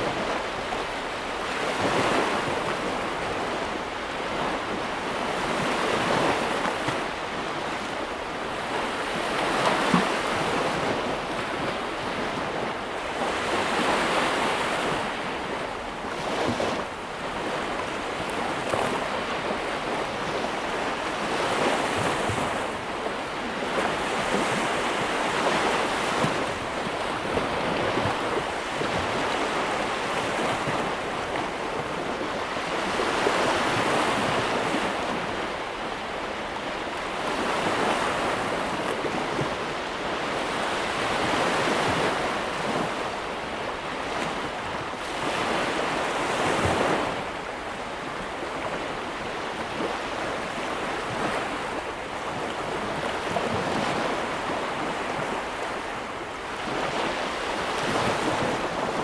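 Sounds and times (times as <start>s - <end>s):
ocean waves breaking on shore: 0.0s - 59.0s
wind: 0.0s - 59.0s.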